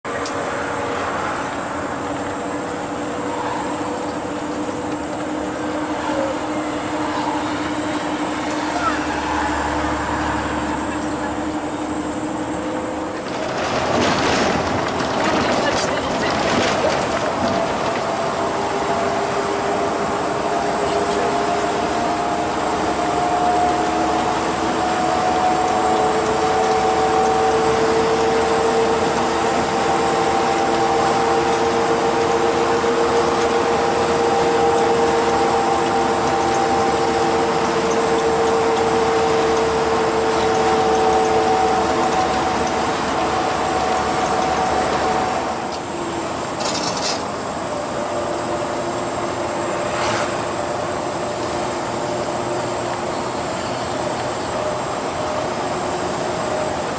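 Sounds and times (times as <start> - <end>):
engine and road noise: 0.0 - 56.9
rear axle whine: 0.0 - 56.9.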